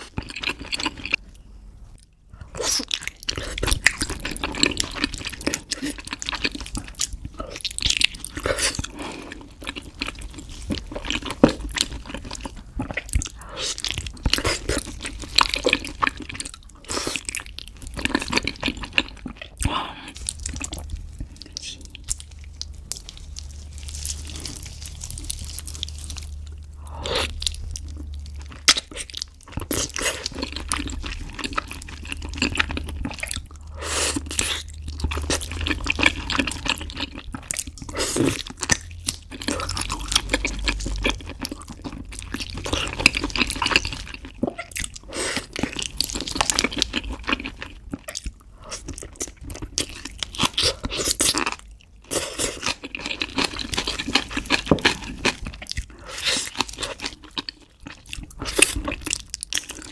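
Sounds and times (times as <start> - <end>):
person chewing wetly: 0.0 - 59.9.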